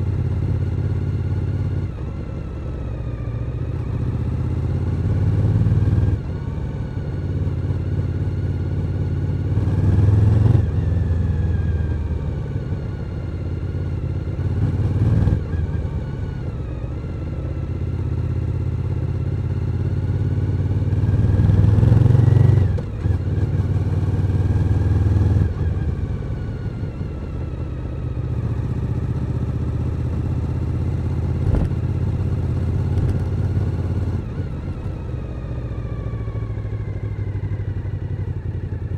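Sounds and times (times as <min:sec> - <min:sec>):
motorcycle engine revving: 0:03.8 - 0:38.8.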